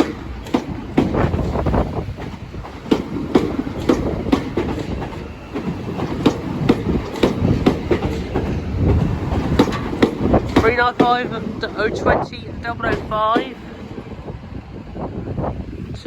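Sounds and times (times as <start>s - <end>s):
wheels clacking over rail joints: 0.0s - 14.2s
electric train passing: 0.0s - 16.0s.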